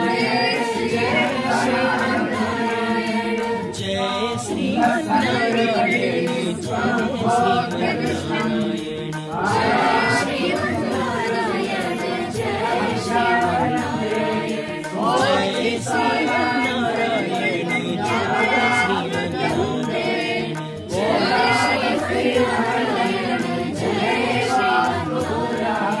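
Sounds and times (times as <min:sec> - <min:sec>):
group chanting a hymn: 0:00.0 - 0:26.0.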